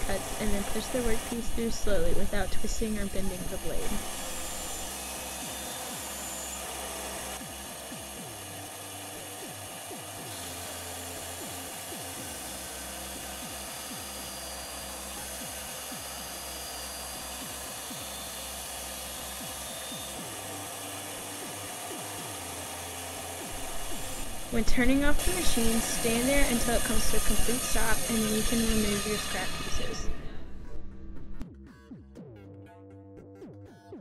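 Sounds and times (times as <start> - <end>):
bandsaw cutting wood: 0.0 - 30.4.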